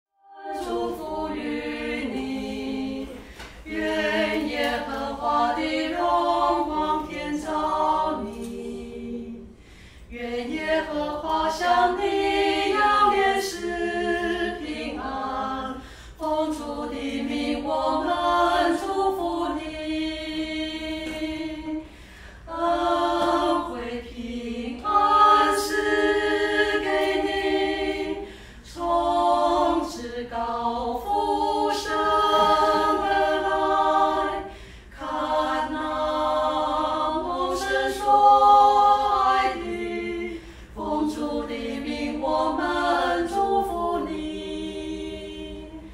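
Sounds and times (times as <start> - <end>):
women singing a cappella: 0.2 - 45.9.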